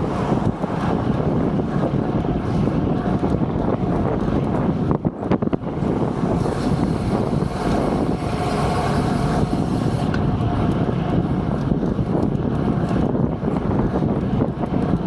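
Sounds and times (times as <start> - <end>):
city traffic noise: 0.0 - 15.0
wind rushing over microphone: 0.0 - 15.0.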